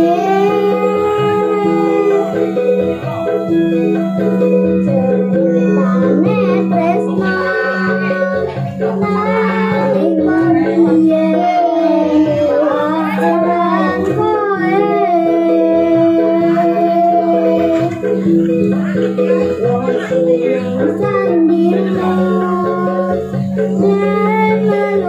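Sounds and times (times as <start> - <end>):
backing music with keyboard chord: 0.0 - 25.0
child singing into microphone: 0.0 - 25.0
woman singing along: 0.0 - 25.0.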